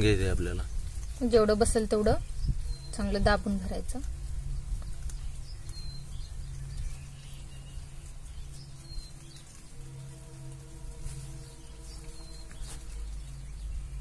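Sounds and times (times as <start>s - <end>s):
low outdoor hum: 0.0s - 14.0s
high bird chirps: 0.6s - 10.3s, 11.2s - 14.0s.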